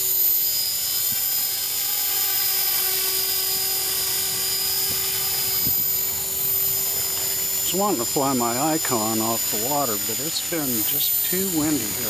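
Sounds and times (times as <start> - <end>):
rc helicopter motor whine: 0.0 - 12.0.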